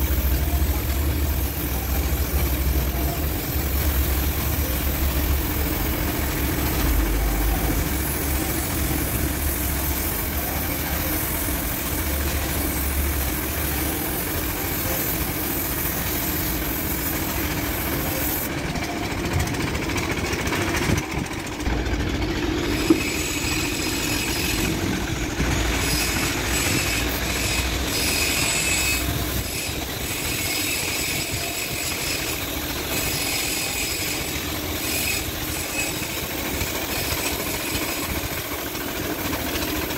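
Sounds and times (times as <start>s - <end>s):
mechanical running noise with hiss: 0.0s - 39.9s.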